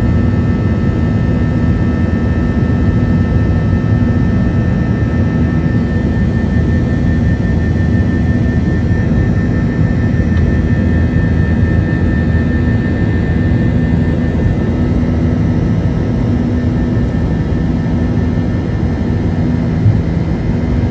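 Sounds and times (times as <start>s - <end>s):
jet engine drone in cabin: 0.0s - 20.9s.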